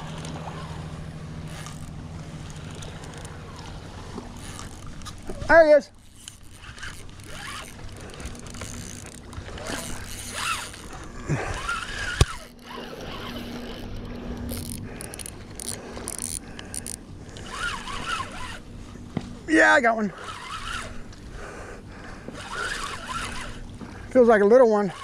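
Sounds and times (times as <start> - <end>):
fishing reel whirring and clicking: 0.0 - 18.7, 19.6 - 25.0.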